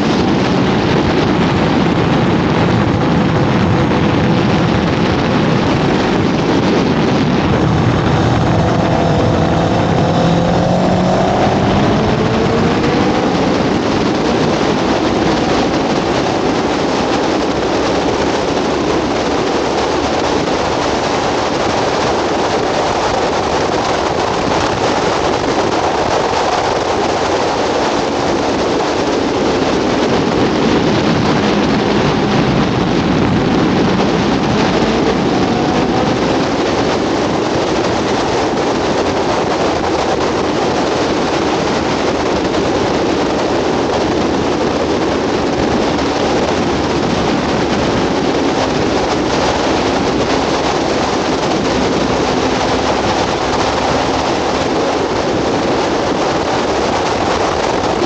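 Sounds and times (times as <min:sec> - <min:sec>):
motorcycle engine running: 0:00.0 - 0:58.0
wind rushing over camera: 0:00.0 - 0:58.0.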